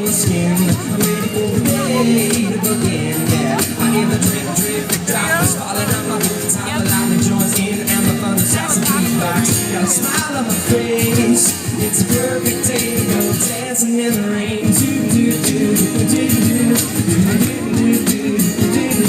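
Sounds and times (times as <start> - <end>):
live pop band with singing: 0.0 - 19.0.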